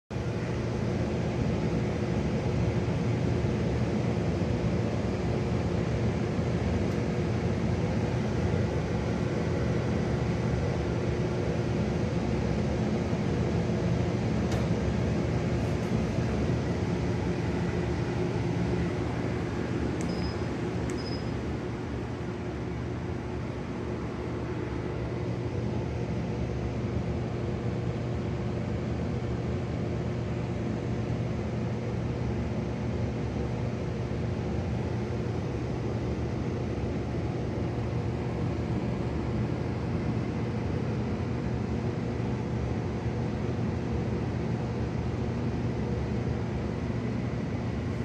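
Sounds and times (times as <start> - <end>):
blower fan running: 0.1 - 48.0.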